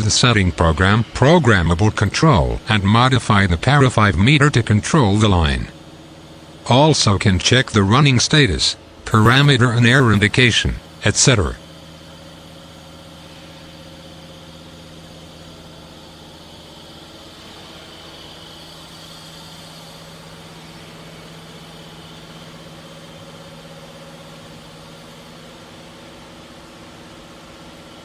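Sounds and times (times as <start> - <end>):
roll forming machine humming: 0.0 - 28.0.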